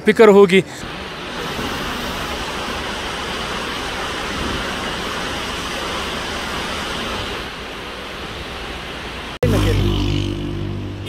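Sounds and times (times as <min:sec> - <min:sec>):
river rushing: 0:00.8 - 0:11.0.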